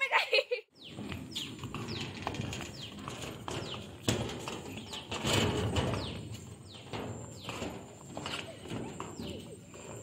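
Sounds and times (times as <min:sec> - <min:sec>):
footsteps on concrete: 0:00.8 - 0:10.0.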